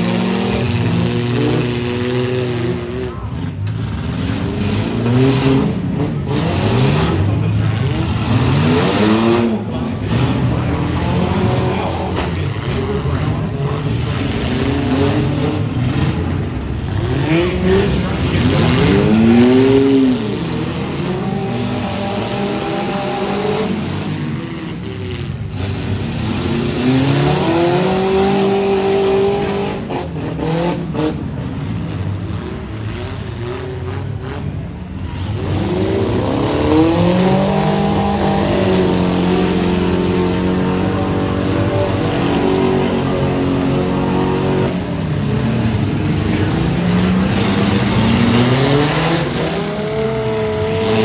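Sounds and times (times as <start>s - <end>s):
engines revving hard: 0.0s - 51.0s.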